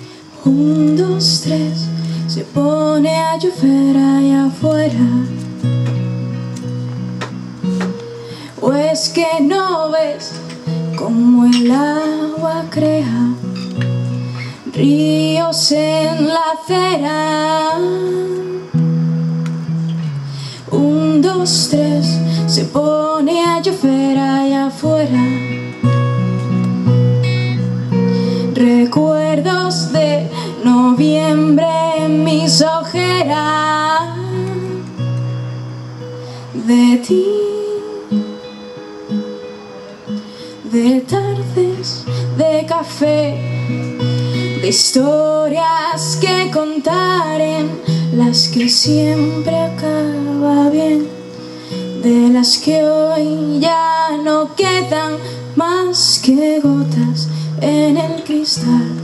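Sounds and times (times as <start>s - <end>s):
woman singing a waltz: 0.0s - 5.6s, 8.5s - 13.7s, 14.4s - 18.8s, 20.6s - 25.8s, 28.4s - 35.1s, 36.5s - 38.6s, 40.6s - 59.0s
strummed acoustic guitar: 0.0s - 59.0s.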